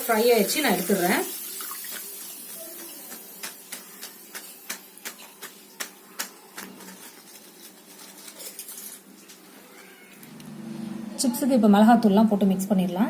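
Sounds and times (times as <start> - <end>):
oil sizzling faintly: 0.0 - 12.2.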